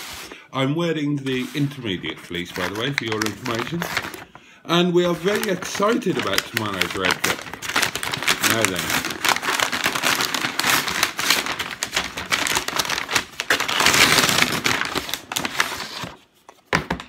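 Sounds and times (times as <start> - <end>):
paper bag crumpling: 1.3 - 16.2.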